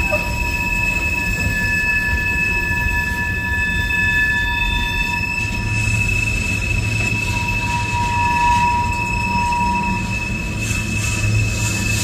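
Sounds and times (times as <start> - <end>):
train rolling rumble: 0.0 - 12.0
train wheels squealing: 0.0 - 12.0.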